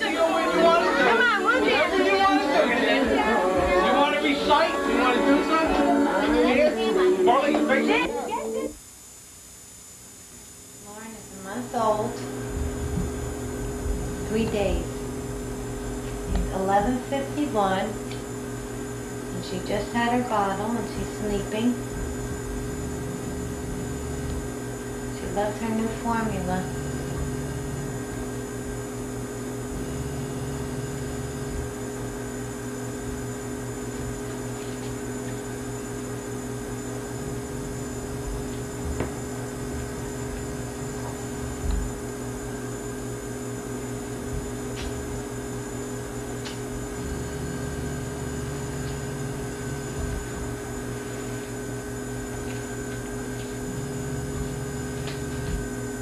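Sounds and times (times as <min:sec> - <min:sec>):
electrical hum and hiss: 0:00.0 - 0:56.0.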